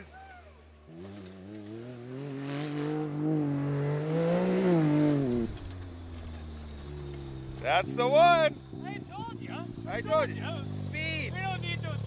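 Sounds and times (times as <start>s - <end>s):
engine under hard throttle: 0.8s - 12.0s.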